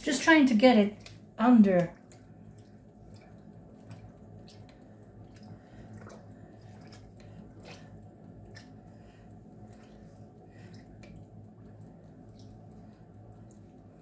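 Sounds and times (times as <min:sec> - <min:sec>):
steady low hum: 0:00.0 - 0:14.0
wet fabric squelching: 0:00.9 - 0:13.6.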